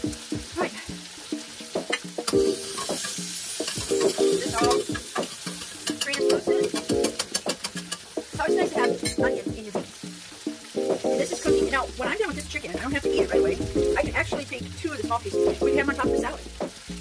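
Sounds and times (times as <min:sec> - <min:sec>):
background music: 0:00.0 - 0:17.0
chicken sizzling in oil: 0:00.0 - 0:17.0.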